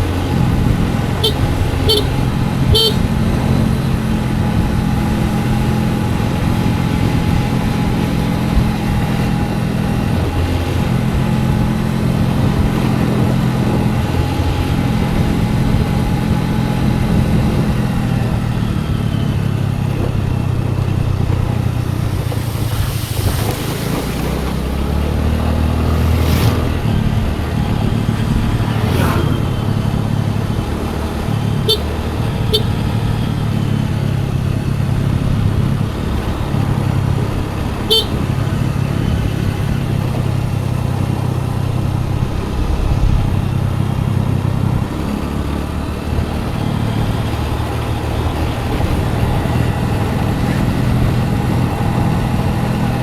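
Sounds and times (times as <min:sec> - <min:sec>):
road and wind noise: 0:00.0 - 0:53.0
scooter engine running: 0:00.0 - 0:53.0.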